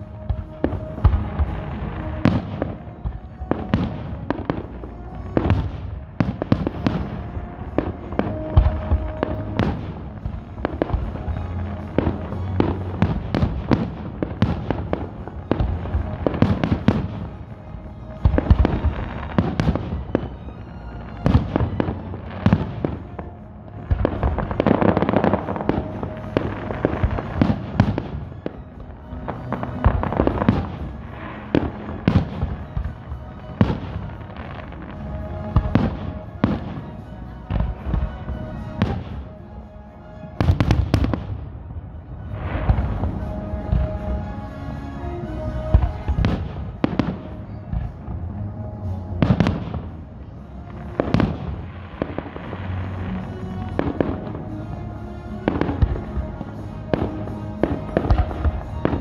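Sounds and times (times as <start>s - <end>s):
fireworks launching and bursting: 0.0s - 39.5s, 40.1s - 59.0s.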